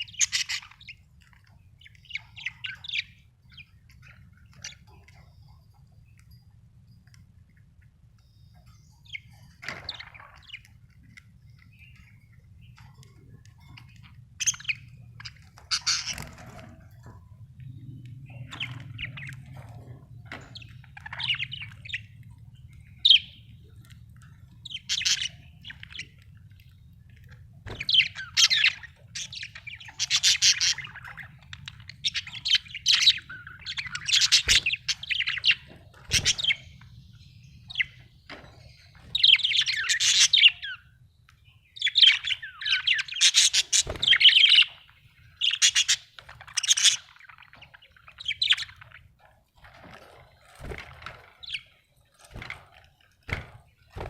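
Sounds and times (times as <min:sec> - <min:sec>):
budgerigars chattering and warbling: 0:00.0 - 0:05.8, 0:08.6 - 0:40.9, 0:41.8 - 0:49.2, 0:50.1 - 0:54.0.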